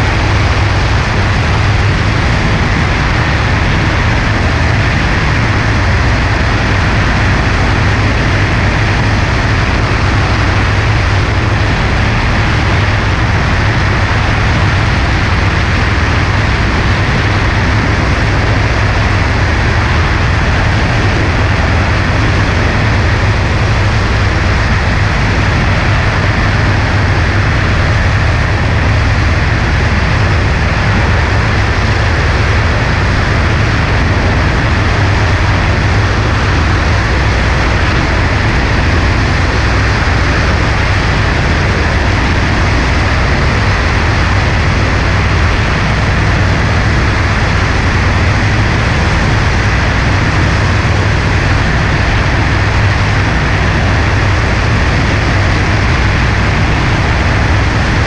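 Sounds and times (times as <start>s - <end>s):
aircraft engine and propeller drone: 0.0s - 58.0s
wind rush: 0.0s - 58.0s.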